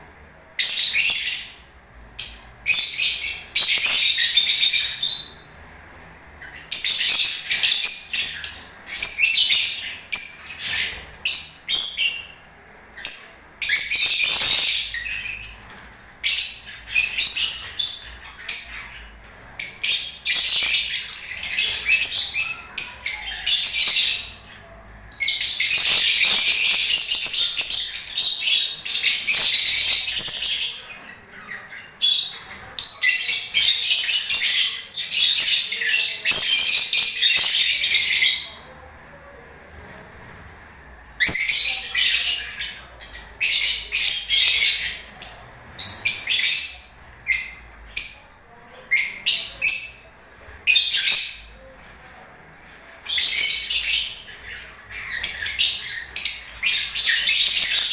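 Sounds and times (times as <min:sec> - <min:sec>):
lovebirds chirping: 0:00.0 - 0:39.4, 0:41.1 - 0:52.3, 0:53.0 - 0:57.9.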